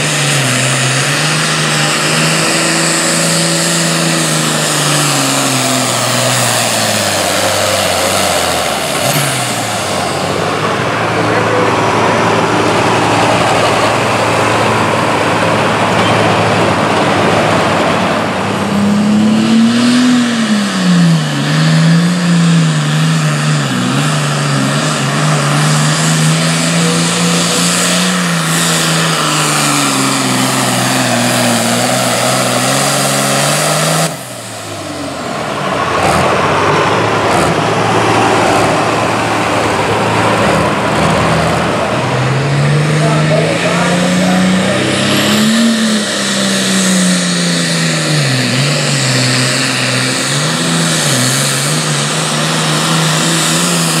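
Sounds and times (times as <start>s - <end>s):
diesel tractor engine at full throttle: 0.0s - 54.0s
heavy track noise: 0.0s - 54.0s.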